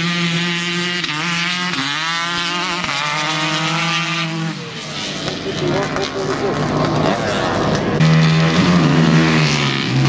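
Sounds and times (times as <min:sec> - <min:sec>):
dirt bike engine revving high: 0:00.0 - 0:10.0.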